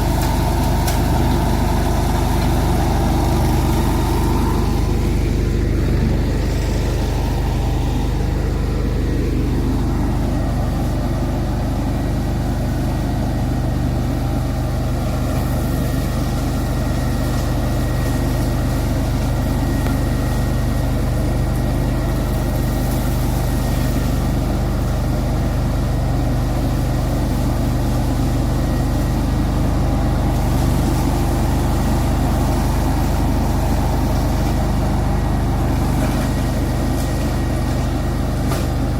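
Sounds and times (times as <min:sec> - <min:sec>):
mower engine droning: 0:00.0 - 0:38.9.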